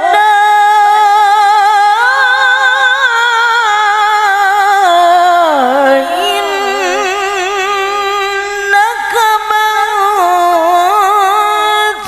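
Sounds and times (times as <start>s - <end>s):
woman reciting melodically: 0.0s - 12.0s.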